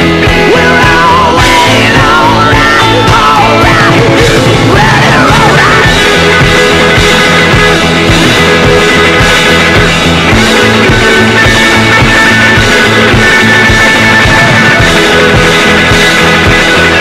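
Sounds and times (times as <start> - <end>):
rock music with distorted guitar: 0.0 - 17.0.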